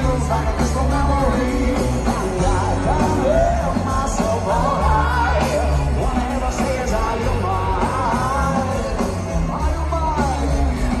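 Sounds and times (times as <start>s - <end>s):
loud boomy bass: 0.0s - 11.0s
rock band playing live: 0.0s - 11.0s.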